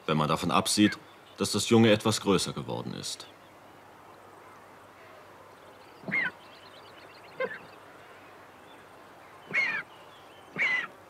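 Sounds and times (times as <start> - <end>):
vultures calling: 0.3 - 1.5, 3.2 - 11.0.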